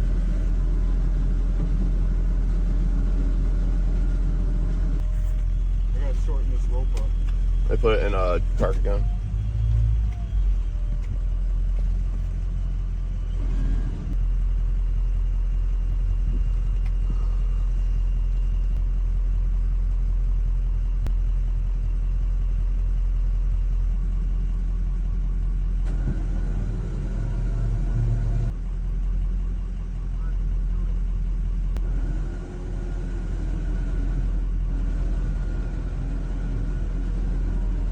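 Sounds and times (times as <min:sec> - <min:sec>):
vehicle engine rumbling: 0:00.0 - 0:37.9.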